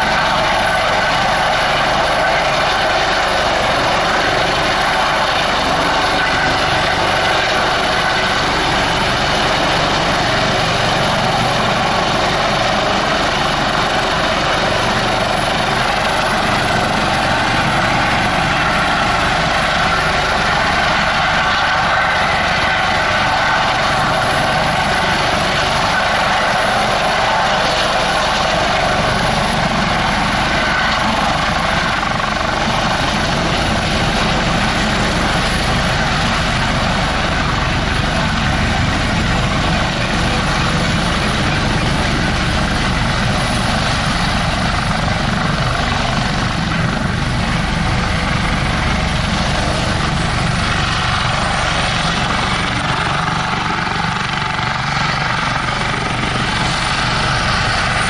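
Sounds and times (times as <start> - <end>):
helicopter hovering: 0.0 - 58.0.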